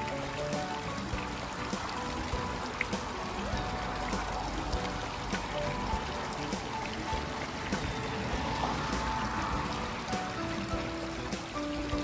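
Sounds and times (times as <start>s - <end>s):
fountain water splashing: 0.0s - 12.0s
soft background music: 0.0s - 12.0s.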